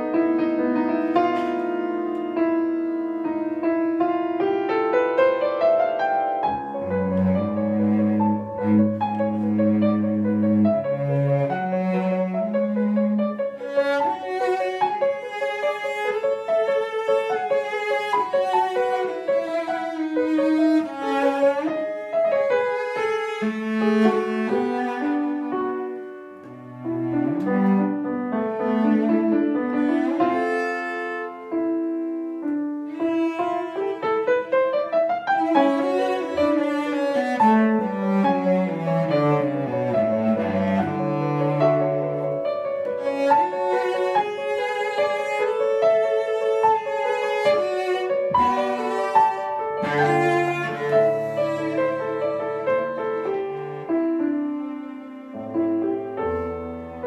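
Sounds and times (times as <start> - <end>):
bowed cello: 0.0 - 57.0.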